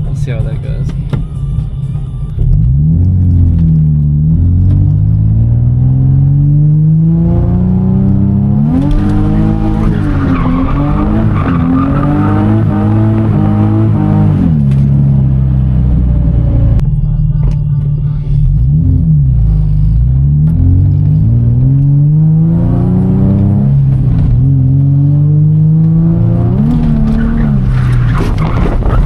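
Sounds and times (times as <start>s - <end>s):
car engine revving: 2.4s - 29.0s.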